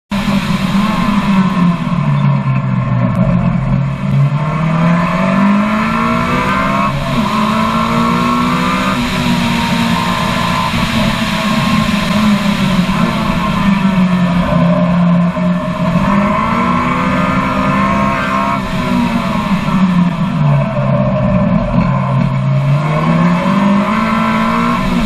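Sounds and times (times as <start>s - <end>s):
car engine at full throttle: 0.0s - 25.0s.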